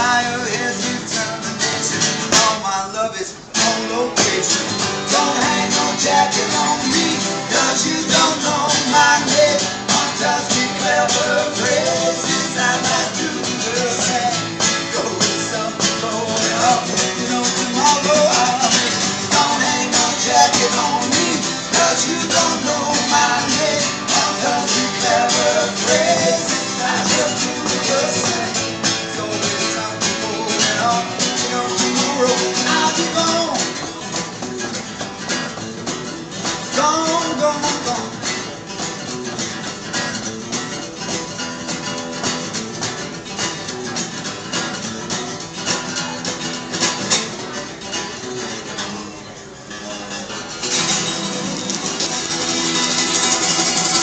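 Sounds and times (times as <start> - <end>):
acoustic guitar strumming: 0.0 - 54.0
guitar melody line: 0.0 - 54.0.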